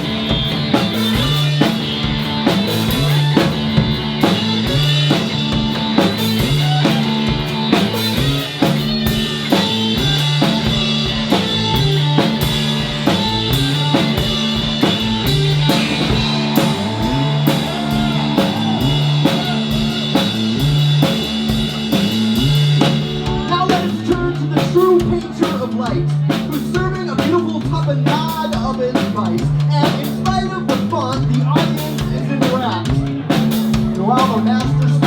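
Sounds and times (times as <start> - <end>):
drum kit beat: 0.0 - 35.0
rock band playing: 0.0 - 35.0.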